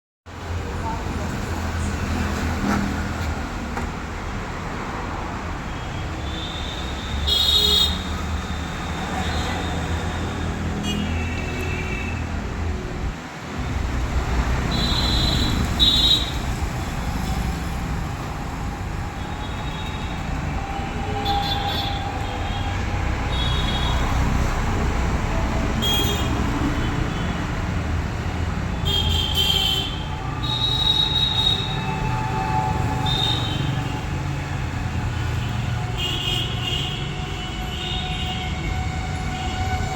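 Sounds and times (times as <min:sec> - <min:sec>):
vehicle rumble and road noise: 0:00.3 - 0:39.9.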